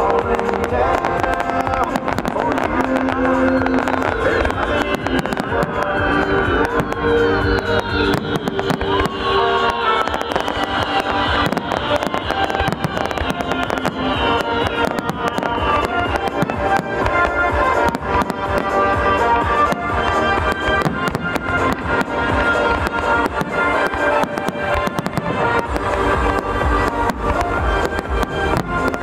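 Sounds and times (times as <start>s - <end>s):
fireworks cracking and banging: 0.0s - 29.0s
music with long held notes: 0.0s - 29.0s.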